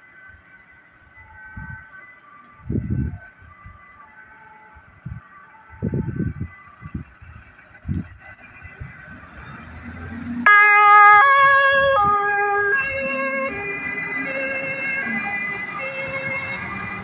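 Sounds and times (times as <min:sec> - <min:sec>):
truck engines running: 0:00.0 - 0:17.0
two-tone fire engine siren: 0:00.0 - 0:17.0.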